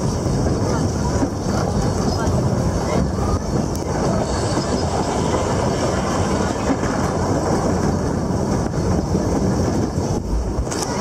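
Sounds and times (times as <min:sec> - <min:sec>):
train wheels rattling on rails: 0:00.0 - 0:11.0.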